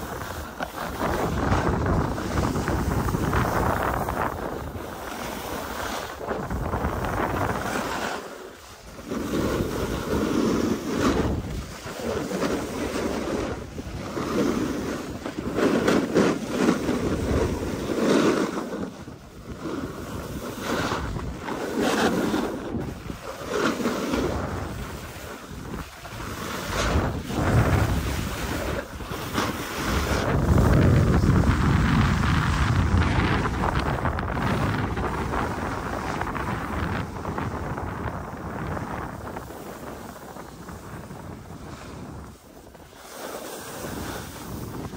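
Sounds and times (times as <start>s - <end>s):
skis scraping over packed snow: 0.0s - 44.9s
wind buffeting microphone: 0.0s - 44.9s.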